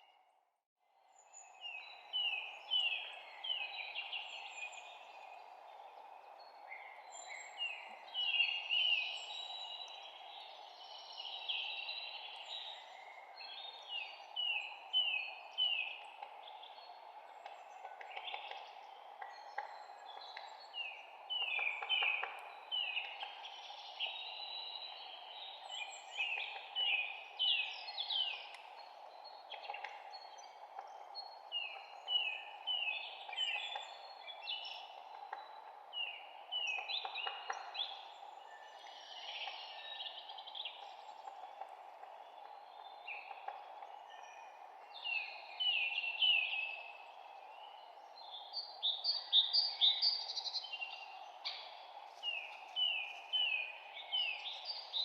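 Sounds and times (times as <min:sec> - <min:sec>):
songbirds chirping and singing: 0:01.2 - 0:55.0.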